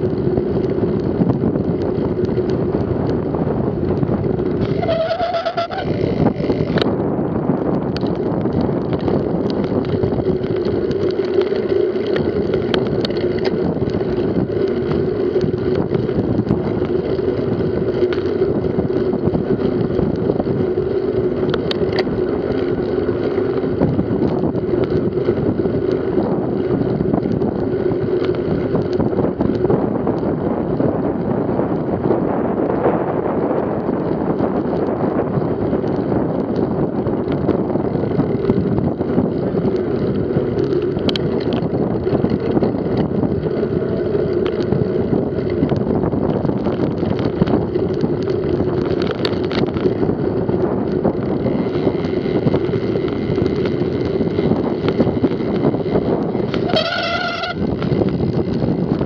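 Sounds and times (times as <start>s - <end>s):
clicks from bumps: 0.0s - 32.8s, 33.7s - 59.0s
bike tyres humming on road: 0.0s - 59.0s
wind buffeting the microphone: 0.0s - 59.0s.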